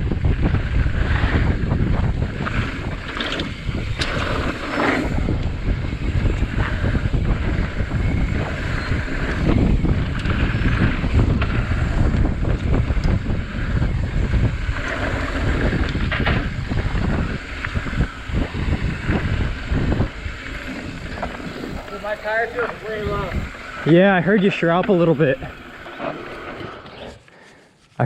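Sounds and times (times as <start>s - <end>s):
bike clattering over bumps: 0.0s - 27.0s
wind rushing over microphone: 0.0s - 27.1s
tyres rumbling on dirt trail: 0.0s - 27.5s.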